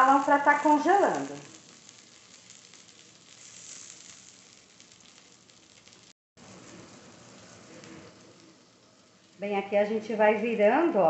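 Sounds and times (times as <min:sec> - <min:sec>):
dumplings sizzling in a pan: 0:00.0 - 0:11.0.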